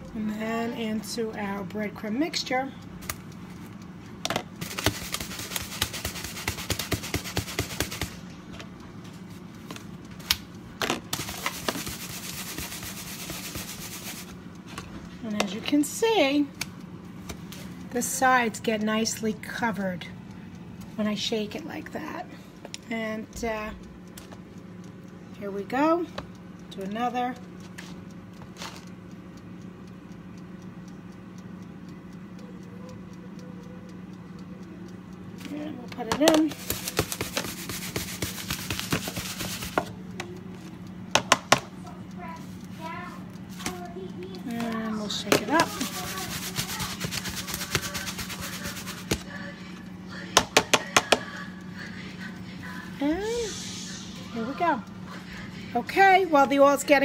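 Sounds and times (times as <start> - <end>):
rapid even ticking: 0.0 - 57.0
steady low hum: 0.0 - 57.0.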